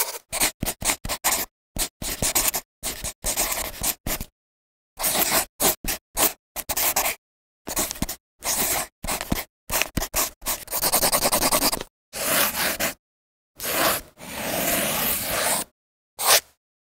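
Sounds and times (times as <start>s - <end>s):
pencil scratching on paper: 0.0s - 4.3s, 5.0s - 13.0s, 13.6s - 16.6s.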